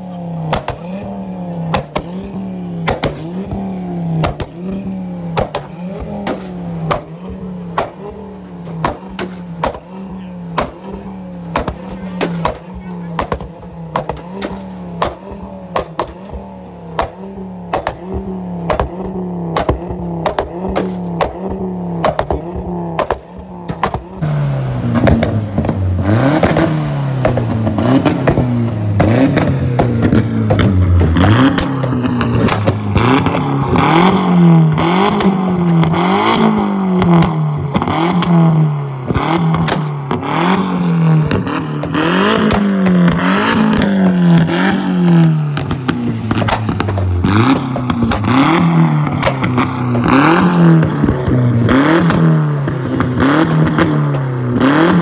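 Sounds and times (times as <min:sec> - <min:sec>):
car engine idling and revving: 0:00.0 - 0:55.0
exhaust pops and crackles: 0:00.0 - 0:55.0.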